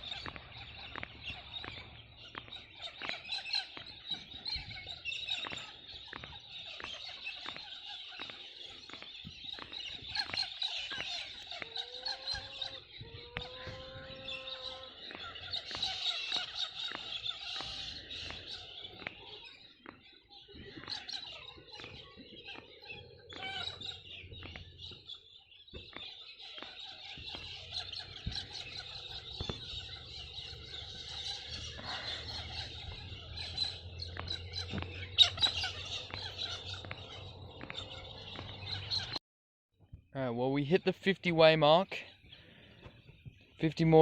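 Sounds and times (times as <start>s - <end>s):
birds chirping: 0.0s - 39.2s, 40.1s - 44.0s.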